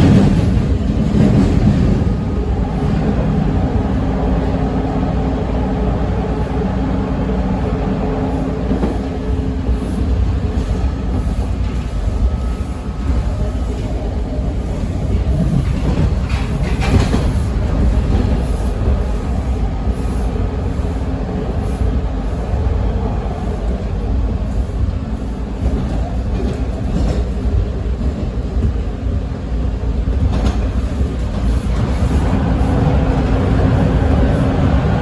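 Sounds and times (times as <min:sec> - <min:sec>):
subway car rumbling on track: 0:00.0 - 0:35.0.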